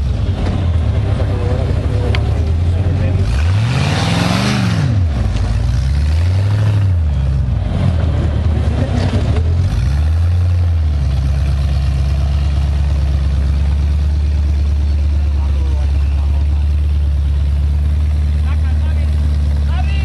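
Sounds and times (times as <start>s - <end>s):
off-road buggy engine revving: 0.0s - 20.0s.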